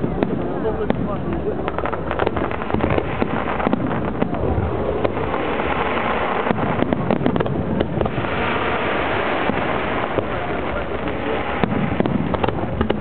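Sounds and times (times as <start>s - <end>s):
continuous rumbling: 0.0s - 13.0s
distant fireworks crackling and bursting: 0.0s - 13.0s.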